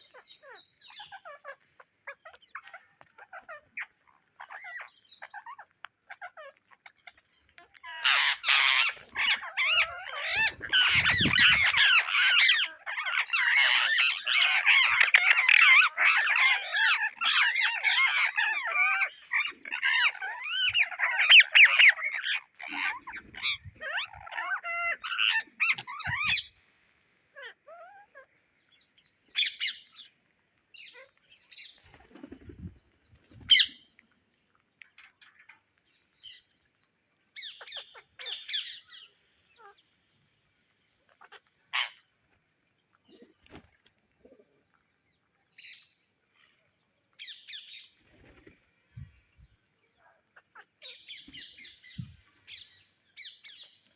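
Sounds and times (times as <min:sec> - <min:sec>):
parrots squawking and chattering: 0:00.0 - 0:39.9, 0:40.7 - 0:53.9.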